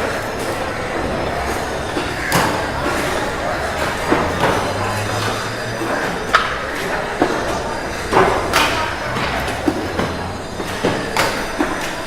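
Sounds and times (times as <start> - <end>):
machine hum and rumble: 0.0 - 11.7.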